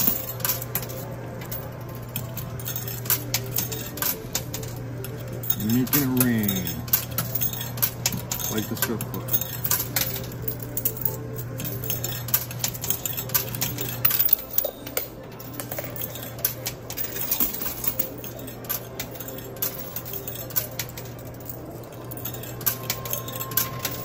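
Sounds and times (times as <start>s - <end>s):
coins clinking in coin pusher: 0.0s - 24.0s.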